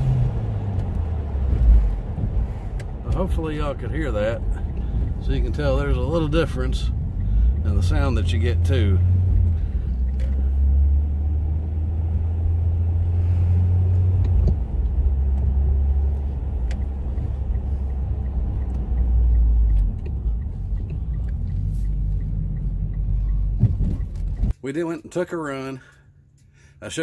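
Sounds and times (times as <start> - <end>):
car engine droning: 0.0 - 24.5.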